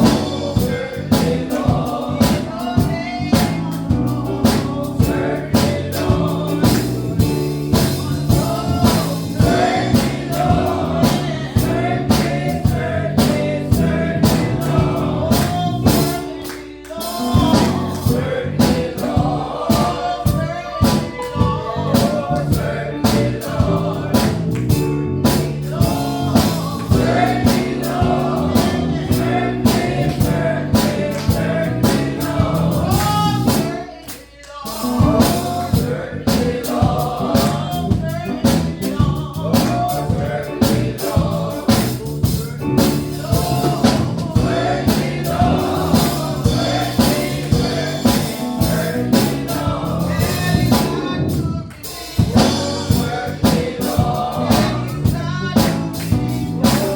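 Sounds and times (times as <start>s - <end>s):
band with steady drum beat: 0.0s - 33.9s, 34.7s - 56.9s
gospel choir singing: 0.0s - 56.9s.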